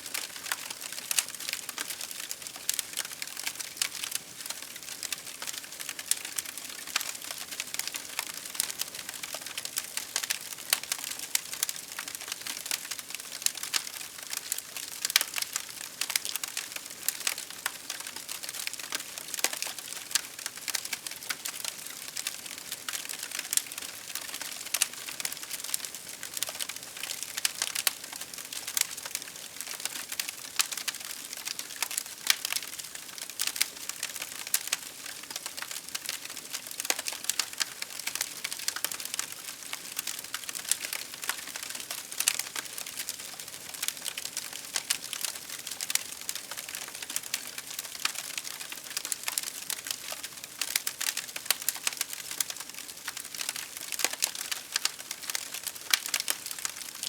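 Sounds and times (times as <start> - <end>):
wood fire crackling: 0.1 - 57.0.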